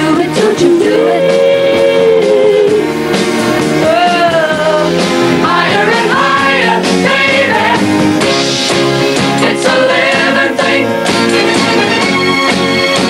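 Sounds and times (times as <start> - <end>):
rock song with singing: 0.0 - 11.5.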